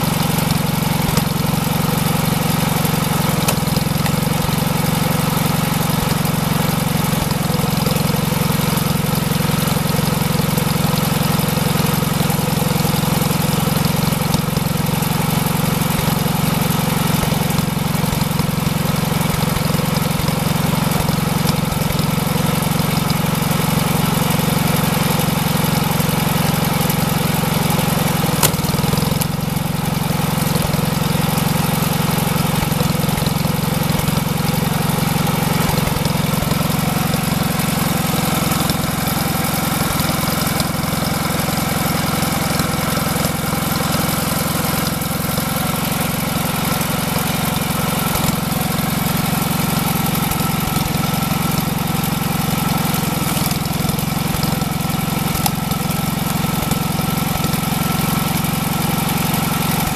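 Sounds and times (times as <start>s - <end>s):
sharp crack of log splitting: 0.0s - 59.9s
small gasoline engine running: 0.0s - 59.9s.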